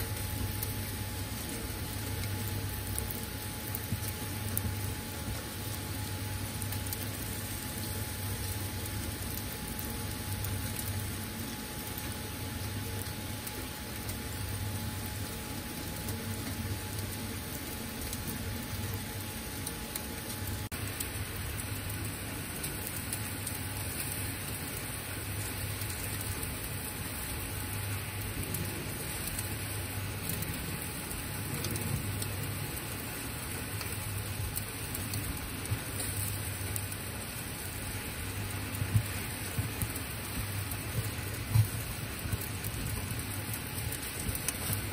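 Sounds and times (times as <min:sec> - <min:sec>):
fish sizzling on a grill: 0:00.0 - 0:44.9.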